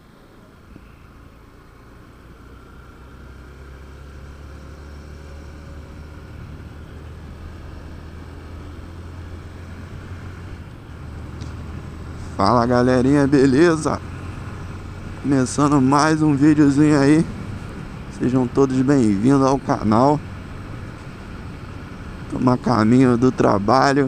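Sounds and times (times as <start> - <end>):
motorcycle engine hum: 0.0 - 24.0
road and wind noise: 0.0 - 24.0.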